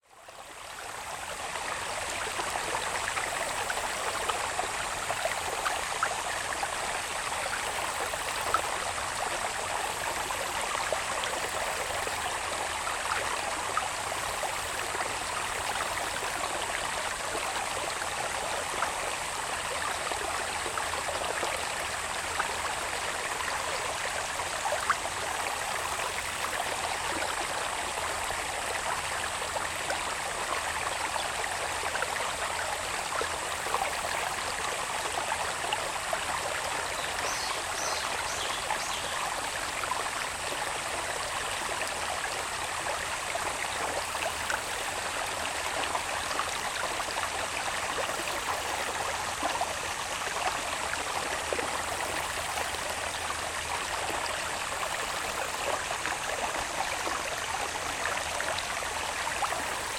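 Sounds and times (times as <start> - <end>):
water babbling in channel: 0.0 - 59.9.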